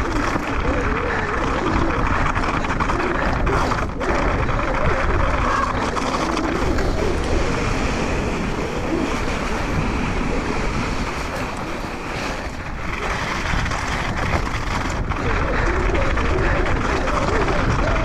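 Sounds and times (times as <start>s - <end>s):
bike tyres rattling over rock: 0.0s - 18.0s
wind on microphone: 0.0s - 18.0s.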